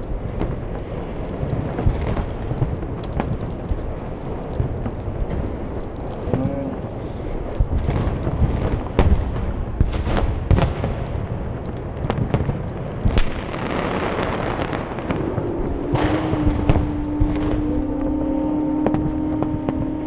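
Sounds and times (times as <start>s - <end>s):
fire rushing and crackling: 0.0s - 20.0s
sharp loud pops and cracks: 0.0s - 20.0s.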